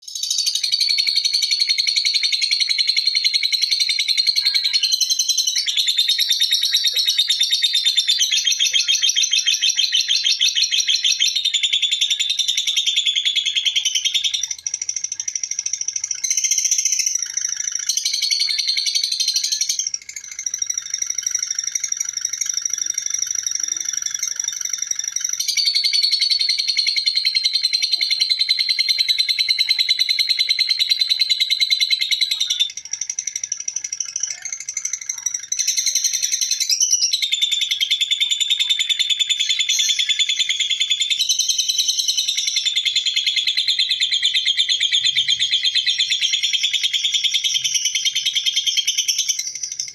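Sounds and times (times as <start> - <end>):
lovebird chattering trill: 0.0 - 49.9.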